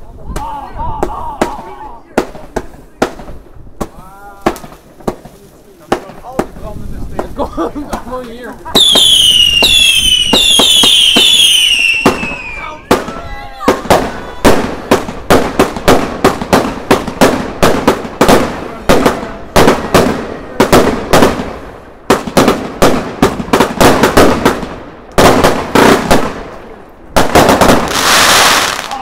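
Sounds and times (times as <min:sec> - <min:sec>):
firework bangs echoing: 0:01.0 - 0:29.0.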